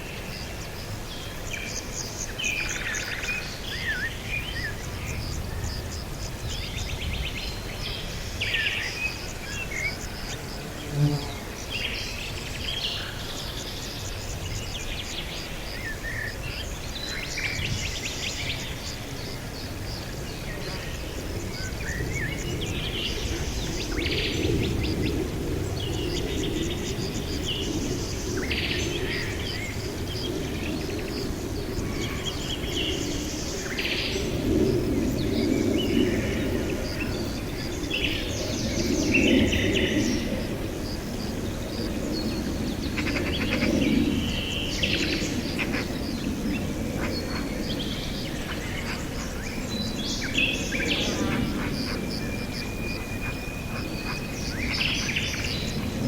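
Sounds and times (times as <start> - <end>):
wild birds chirping: 0.0 - 56.0.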